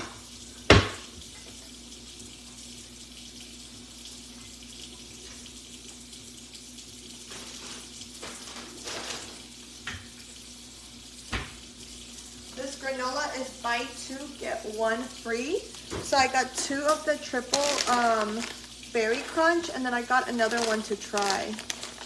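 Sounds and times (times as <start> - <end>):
tap water running into sink: 0.0 - 22.0.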